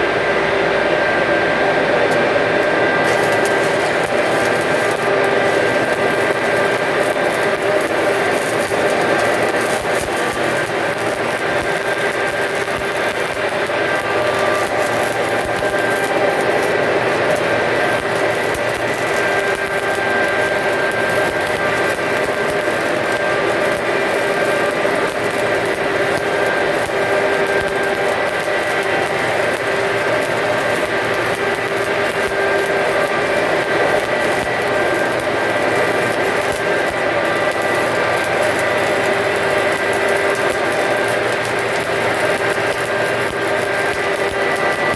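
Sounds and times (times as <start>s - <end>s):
continuous machine hum: 0.0s - 44.9s
welding arc crackling: 2.0s - 44.9s.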